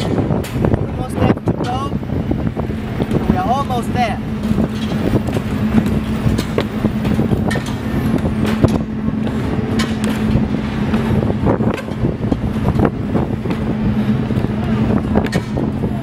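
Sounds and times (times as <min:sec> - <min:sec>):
engine running: 0:00.0 - 0:16.0
wind buffeting microphone: 0:00.0 - 0:16.0.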